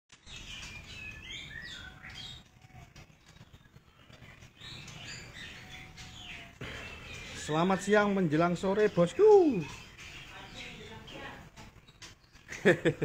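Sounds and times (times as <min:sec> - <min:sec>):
songbirds chirping and whistling: 0:00.1 - 0:13.0.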